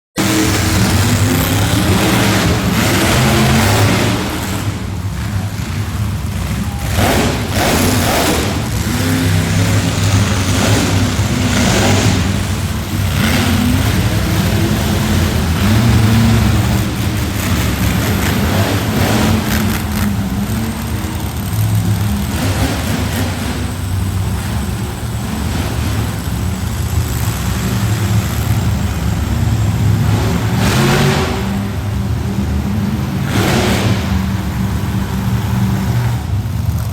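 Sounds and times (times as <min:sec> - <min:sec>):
monster truck engine revving: 0:00.2 - 0:36.9.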